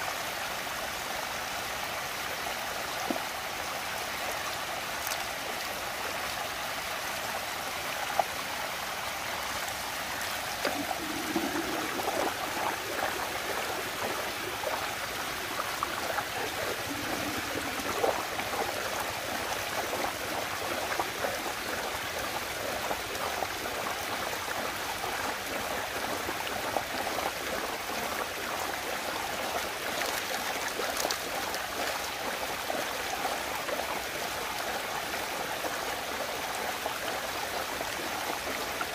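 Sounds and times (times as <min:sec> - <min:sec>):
water rushing in a whirlpool: 0:00.0 - 0:38.9
small water splashes: 0:04.2 - 0:06.4, 0:09.4 - 0:38.9.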